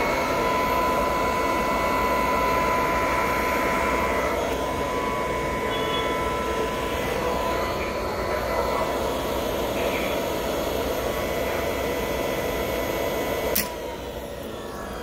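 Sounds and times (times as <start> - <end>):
floor burnisher motor whine: 0.0 - 15.0.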